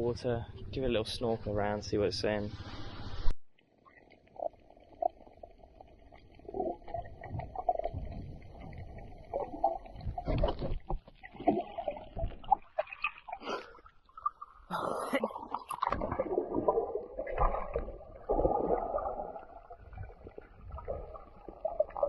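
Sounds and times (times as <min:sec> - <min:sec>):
muffled water sloshing: 0:04.2 - 0:22.0.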